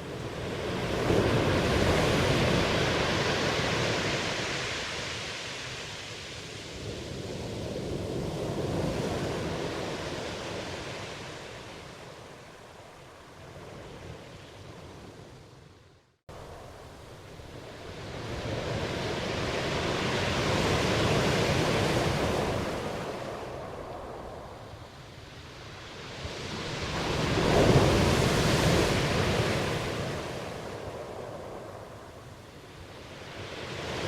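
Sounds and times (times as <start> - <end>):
ocean waves washing in: 0.0 - 34.0.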